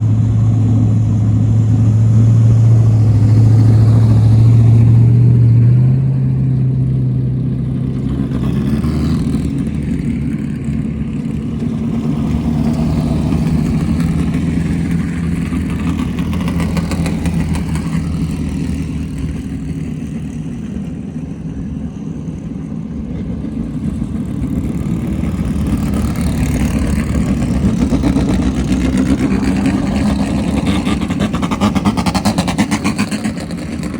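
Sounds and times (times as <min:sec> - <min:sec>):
race car engine running: 0:00.0 - 0:33.9.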